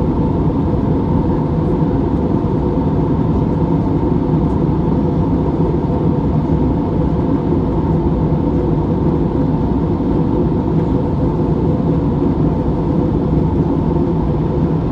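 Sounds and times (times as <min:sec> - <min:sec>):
jet airliner cabin rumble: 0:00.0 - 0:14.9.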